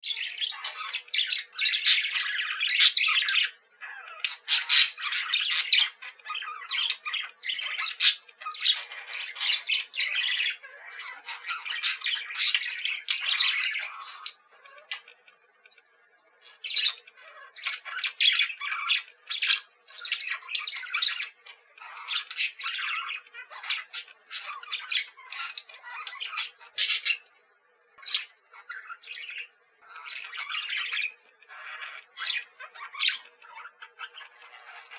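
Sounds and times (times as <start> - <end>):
budgerigars chattering and squawking: 0.0 - 34.9.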